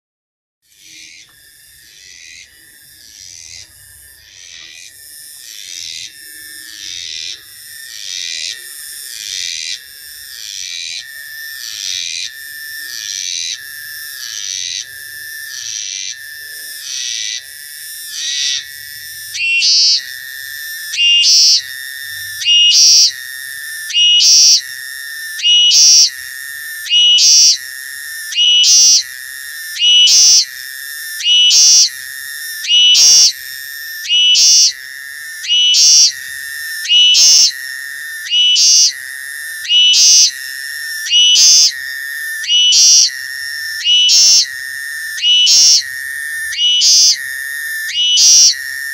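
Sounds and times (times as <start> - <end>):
cicada rasping buzz: 0.7 - 48.9.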